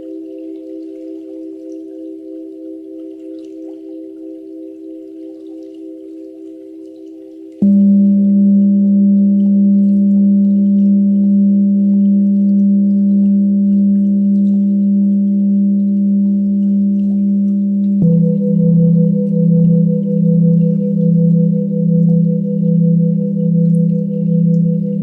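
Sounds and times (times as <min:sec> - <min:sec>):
singing bowl ringing: 0:00.0 - 0:25.0.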